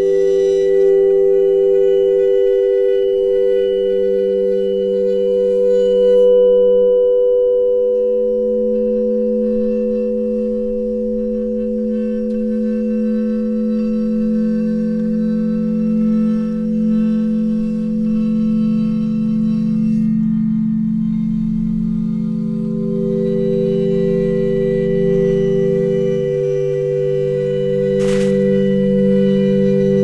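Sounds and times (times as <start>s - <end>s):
ambient electronic drone music: 0.0s - 30.0s.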